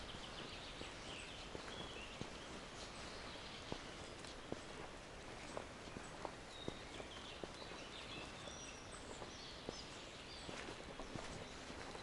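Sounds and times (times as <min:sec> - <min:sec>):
faint forest ambience hiss: 0:00.0 - 0:12.0
footsteps on forest path: 0:00.0 - 0:12.0.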